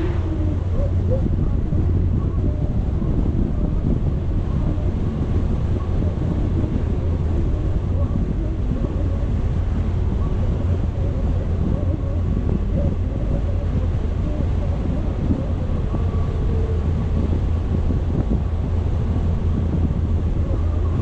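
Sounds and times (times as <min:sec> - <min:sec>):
vehicle engine and road rumble: 0:00.0 - 0:21.0
wind buffeting microphone: 0:00.0 - 0:21.0.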